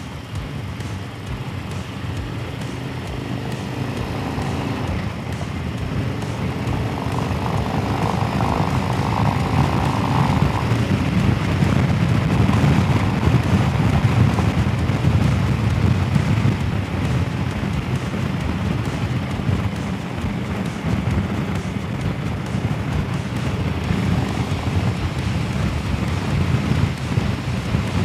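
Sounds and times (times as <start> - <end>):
motorcycle engine running: 0.0 - 28.0
wind rush: 4.0 - 28.0.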